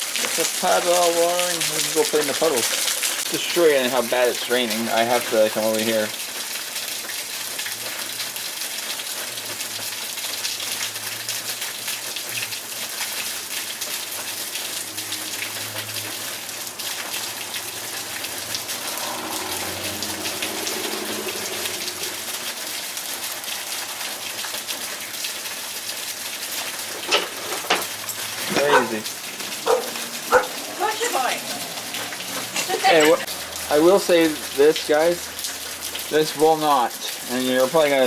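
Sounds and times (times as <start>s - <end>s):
heavy rain pouring: 0.0s - 38.0s
water splashing on hard surfaces: 0.0s - 38.0s.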